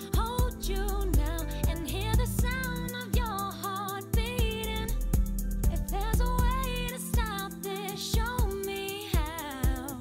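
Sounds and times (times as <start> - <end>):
song with drum beat and singing: 0.0 - 10.0.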